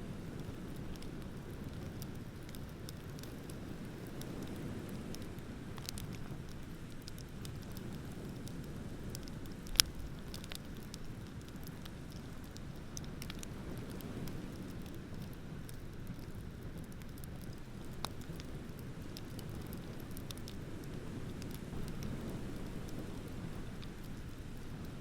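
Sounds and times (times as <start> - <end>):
bonfire crackling and popping: 0.0 - 25.0.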